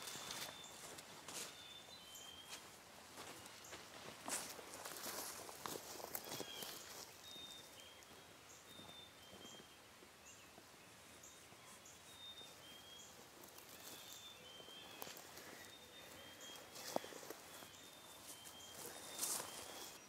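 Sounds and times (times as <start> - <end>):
distant high chirping calls: 0.0 - 20.0.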